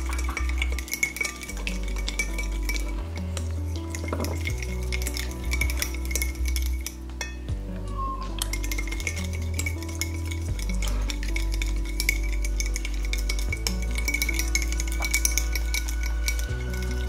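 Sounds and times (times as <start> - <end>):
background music with low notes: 0.0 - 17.0
fork clinking and scraping bowl: 0.0 - 17.0.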